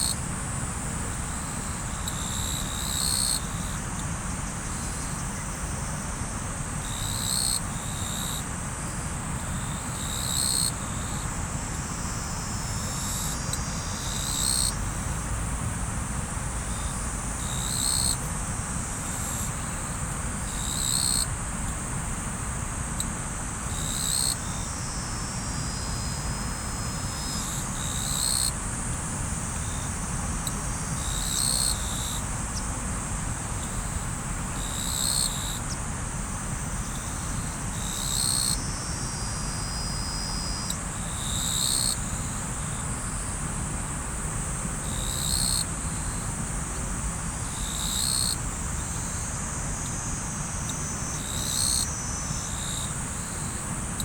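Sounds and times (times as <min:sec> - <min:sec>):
high insect chorus: 0:00.0 - 0:54.0.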